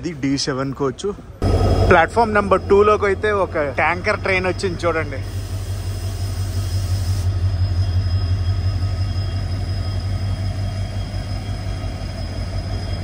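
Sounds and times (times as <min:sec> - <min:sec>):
diesel locomotive engine idling: 0:01.0 - 0:13.0
faint high whines: 0:01.4 - 0:13.0.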